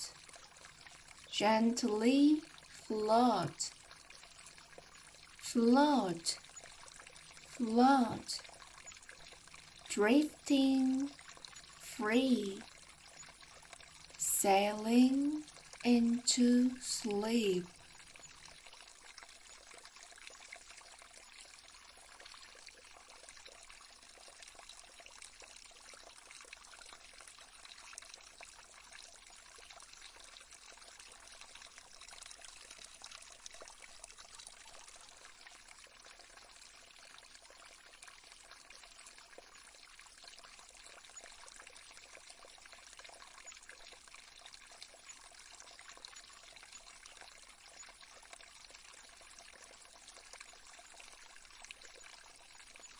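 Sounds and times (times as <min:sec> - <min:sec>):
faint trickling stream: 0:00.0 - 0:52.9.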